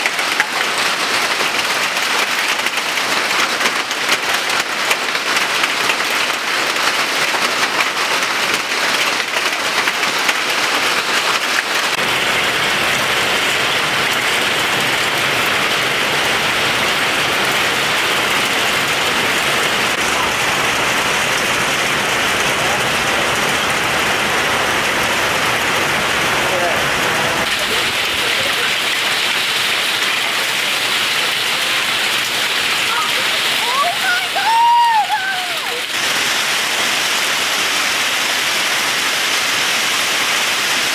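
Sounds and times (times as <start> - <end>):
hail clattering on roof: 0.0 - 40.9
heavy rain rushing: 0.0 - 40.9.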